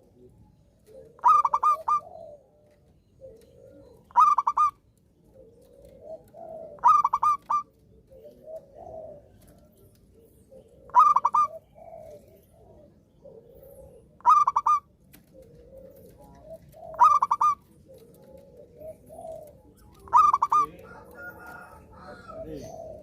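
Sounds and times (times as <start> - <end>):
dove bubbling cooing song: 0.0 - 23.0.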